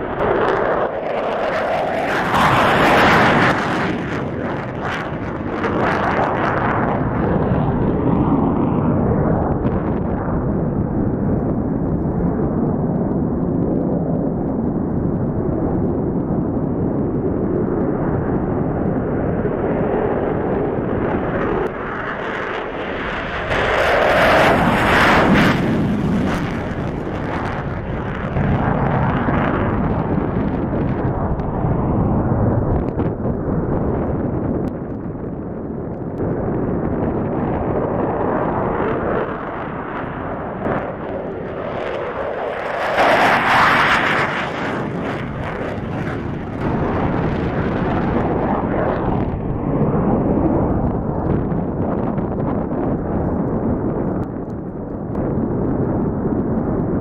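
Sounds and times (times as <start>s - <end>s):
fighter jet roaring on takeoff: 0.0s - 57.0s.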